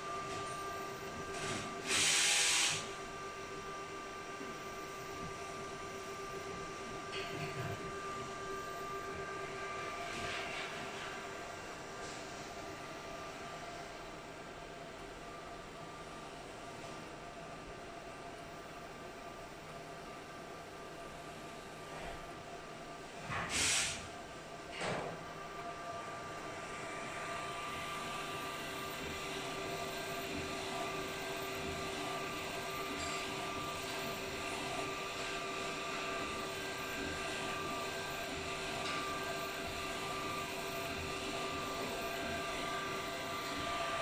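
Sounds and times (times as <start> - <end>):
printer motors and fans whirring: 0.0 - 44.0.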